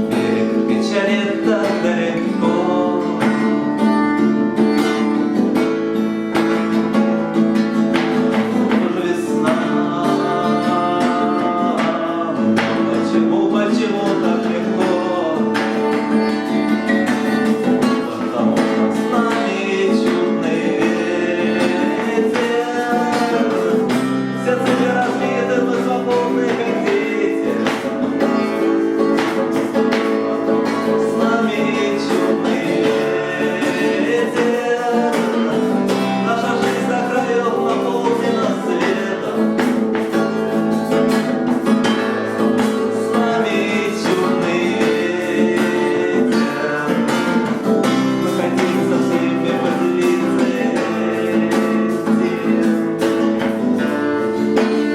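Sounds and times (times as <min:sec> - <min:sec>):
acoustic guitar strumming: 0:00.0 - 0:54.9
person singing: 0:00.0 - 0:54.9.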